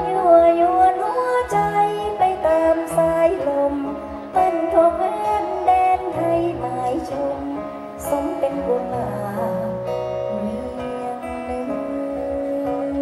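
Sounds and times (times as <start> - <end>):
backing music with bass: 0.0 - 13.0
woman singing into microphone: 0.0 - 13.0.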